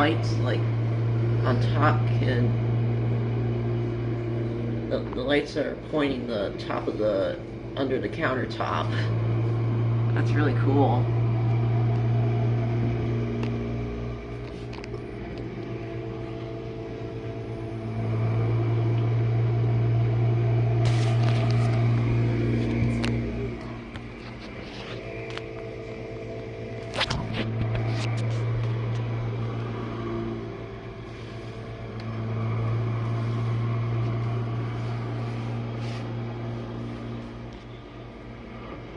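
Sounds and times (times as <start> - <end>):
dishwasher motor hum: 0.0 - 38.9.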